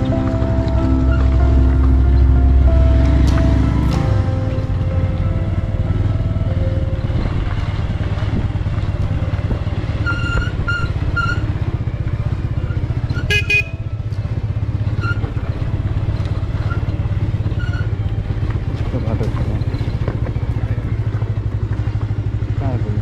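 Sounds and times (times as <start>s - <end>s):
motorcycle engine running: 0.0s - 23.0s
tyres on rough gravel: 0.0s - 23.0s.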